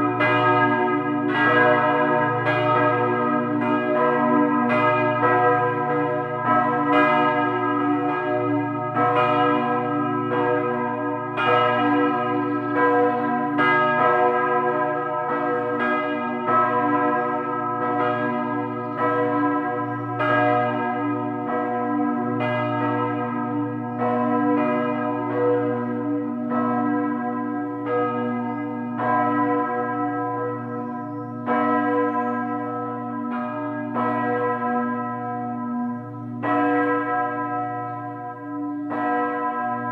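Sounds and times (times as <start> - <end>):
church bells ringing in a peal: 0.0 - 39.9.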